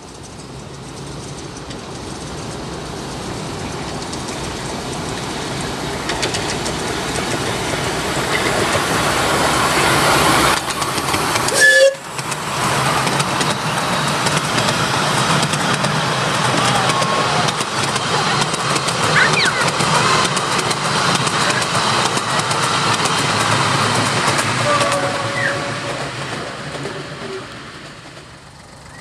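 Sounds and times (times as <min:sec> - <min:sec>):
miniature train wheels clattering on rails: 0:00.0 - 0:09.4, 0:10.0 - 0:29.0.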